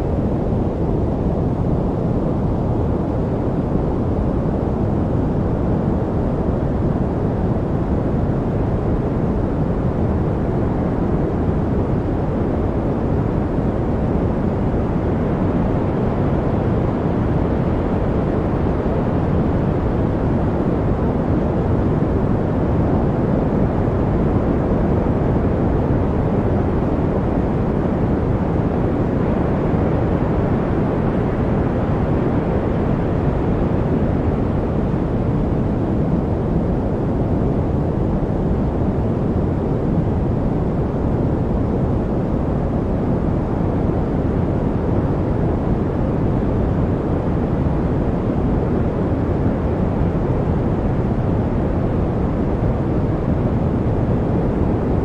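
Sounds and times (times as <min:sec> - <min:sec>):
deep rumbling white noise: 0:00.0 - 0:55.0.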